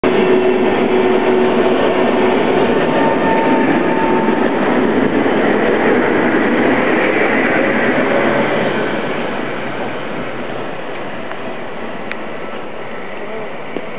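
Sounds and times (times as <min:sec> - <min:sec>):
tram rumbling on rails: 0:00.0 - 0:13.9.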